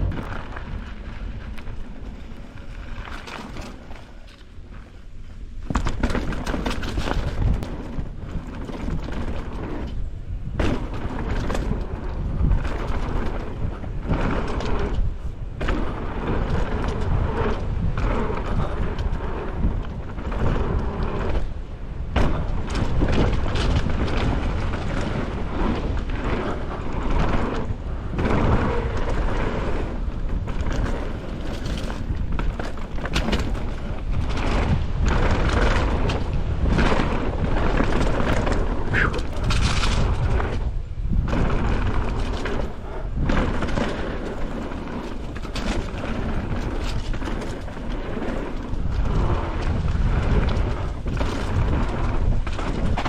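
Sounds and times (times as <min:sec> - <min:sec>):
bike knocks and rattles: 0:00.0 - 0:53.0
bike tyres on dirt: 0:00.0 - 0:53.0
wind buffeting microphone: 0:00.0 - 0:53.0.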